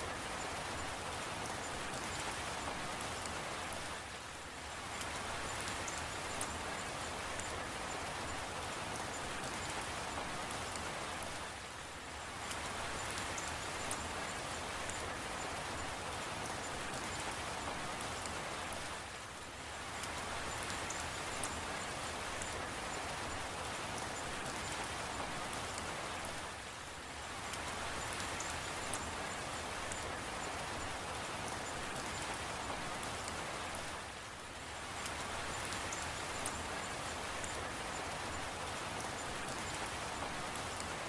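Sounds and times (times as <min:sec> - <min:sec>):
raindrops striking a surface: 0:00.0 - 0:41.0
steady rain falling: 0:00.0 - 0:41.0.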